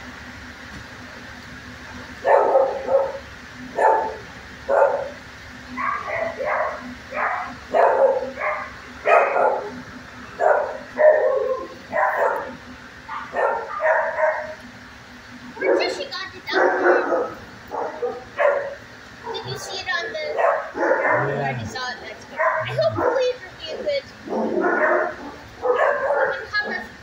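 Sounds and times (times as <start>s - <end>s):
steady low hum: 0.0s - 27.0s
dog barking: 2.2s - 5.2s, 5.8s - 9.8s, 10.4s - 14.6s, 15.6s - 26.9s.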